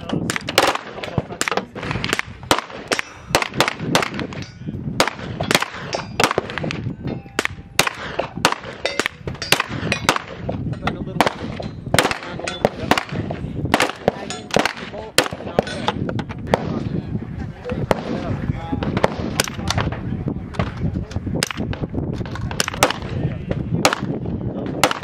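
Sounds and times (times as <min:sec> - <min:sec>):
gun firing single shots: 0:00.1 - 0:16.9, 0:17.8 - 0:19.9, 0:21.4 - 0:23.2, 0:23.8 - 0:25.0.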